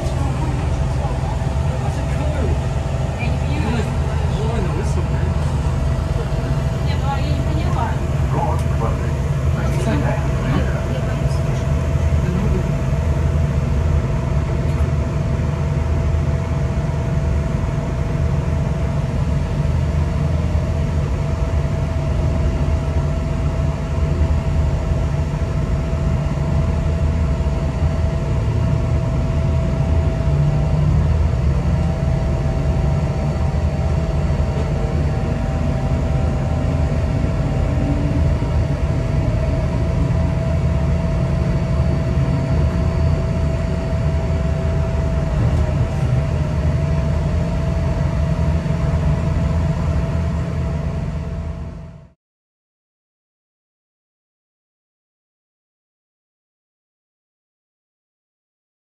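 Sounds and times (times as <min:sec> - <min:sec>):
train rumble inside carriage: 0:00.0 - 0:52.2.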